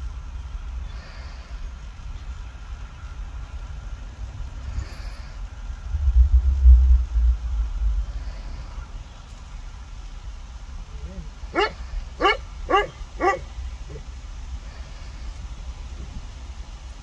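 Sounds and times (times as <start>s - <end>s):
low uneven rumble: 0.0s - 17.0s.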